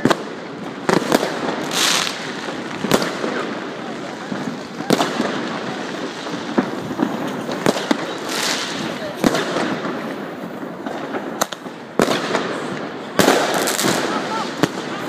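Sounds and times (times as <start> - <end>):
firecrackers crackling: 0.0 - 15.0
firework bangs: 0.0 - 15.0.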